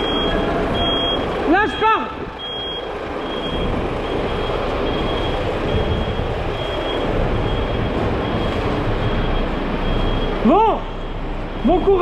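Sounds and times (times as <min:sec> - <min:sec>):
reversing alarm beeping: 0:00.0 - 0:12.0
truck engine rumbling: 0:00.0 - 0:12.0.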